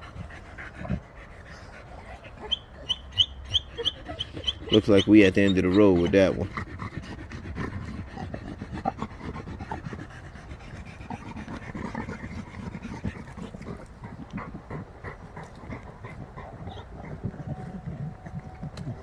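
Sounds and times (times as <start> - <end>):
dog panting: 0.0 - 19.0.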